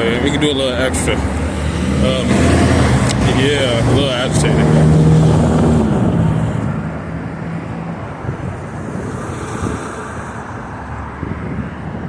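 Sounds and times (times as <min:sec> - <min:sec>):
engine hum: 0:00.0 - 0:12.0
traffic noise: 0:00.0 - 0:12.0
wind on microphone: 0:01.4 - 0:12.0.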